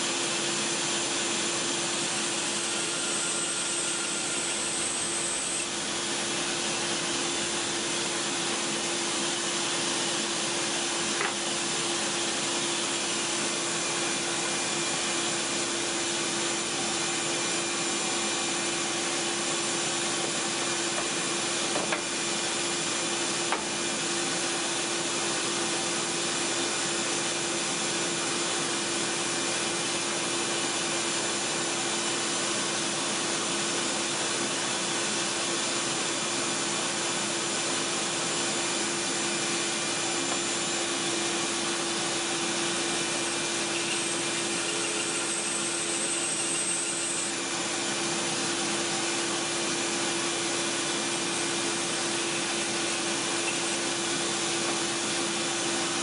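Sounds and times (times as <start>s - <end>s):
band saw cutting foam: 0.0s - 56.0s.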